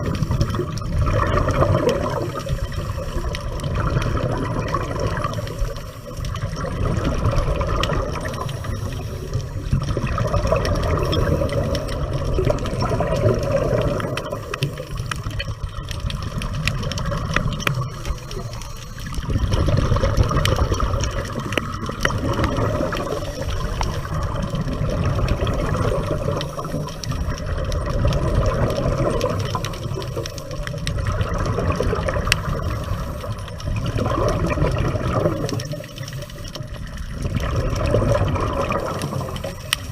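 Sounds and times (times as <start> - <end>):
underwater diver bubbles: 0.0 - 39.9.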